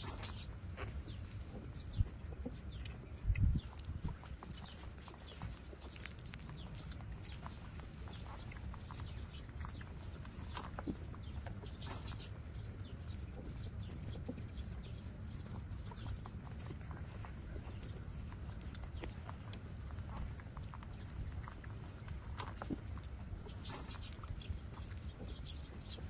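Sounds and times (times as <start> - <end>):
puppies suckling: 0.0 - 26.0.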